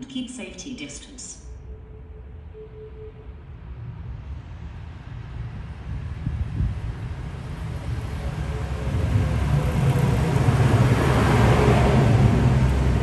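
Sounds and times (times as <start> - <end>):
train rumble and wheels on rails: 1.7 - 13.0.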